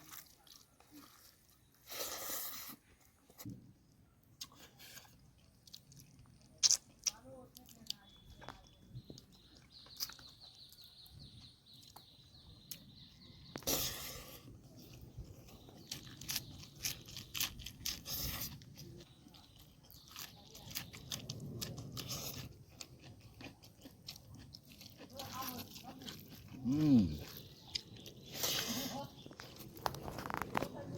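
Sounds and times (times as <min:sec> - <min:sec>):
person chewing and crunching food: 0:00.0 - 0:30.9.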